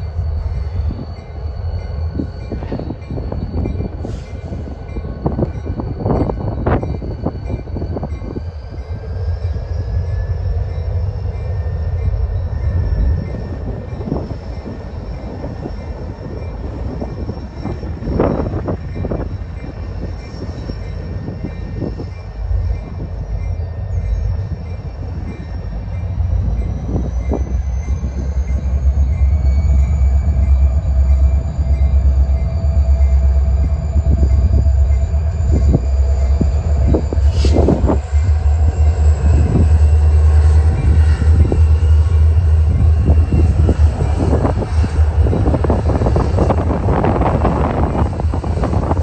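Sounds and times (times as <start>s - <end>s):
locomotive engines rumbling: 0.0s - 49.0s
thin steady whine: 0.0s - 49.0s.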